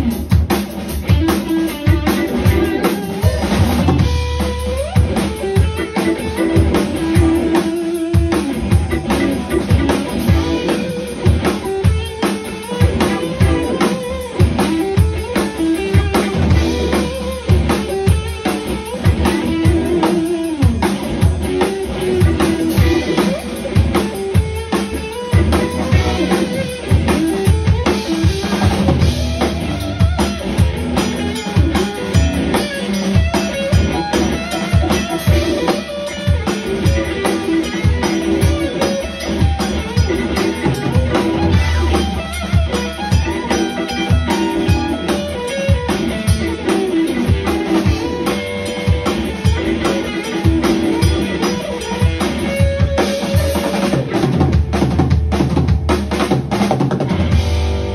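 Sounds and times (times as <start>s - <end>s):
electric guitar: 0.0s - 57.9s
keyboard: 0.0s - 57.9s.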